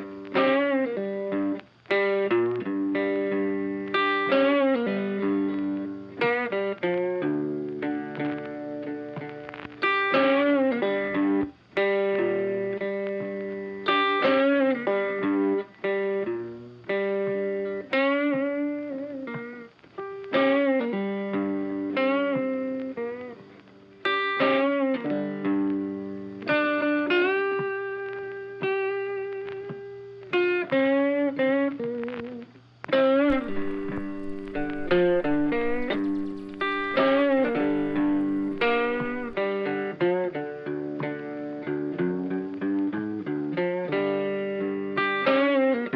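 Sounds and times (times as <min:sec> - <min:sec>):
plucked guitar melody with effects: 0:00.0 - 0:45.9.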